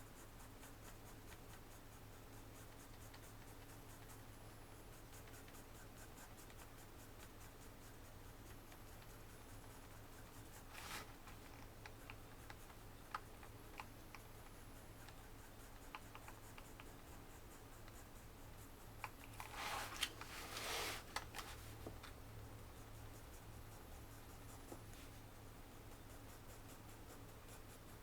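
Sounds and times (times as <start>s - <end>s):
pencil on paper: 0.1s - 21.6s, 22.6s - 28.0s.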